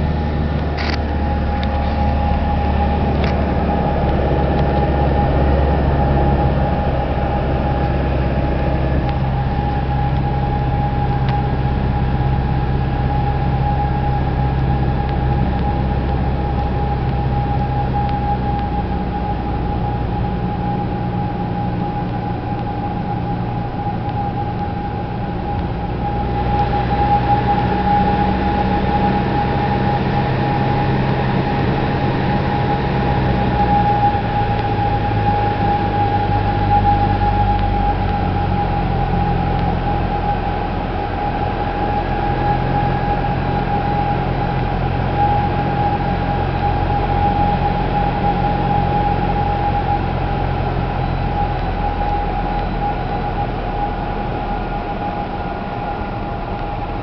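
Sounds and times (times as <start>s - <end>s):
airplane engine drone in cabin: 0.0s - 57.0s
high whine: 0.0s - 57.0s.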